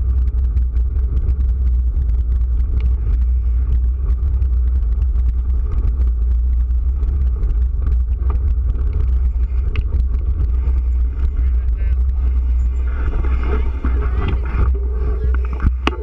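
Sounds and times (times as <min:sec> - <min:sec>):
bike ticks and rattles: 0:00.0 - 0:16.0
wind and road rumble: 0:00.0 - 0:16.0.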